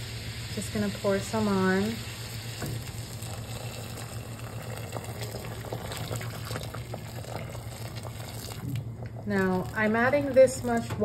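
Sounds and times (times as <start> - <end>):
water pouring into a pot: 0.0 - 10.9.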